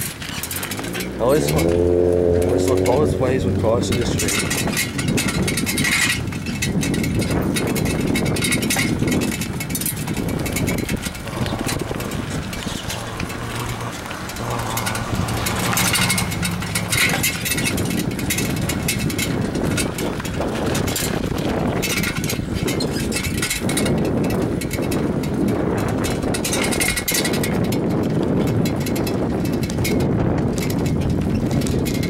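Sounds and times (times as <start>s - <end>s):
bicycle tyres rolling on asphalt: 0.0s - 32.0s
bike rattling and knocking: 0.0s - 32.0s.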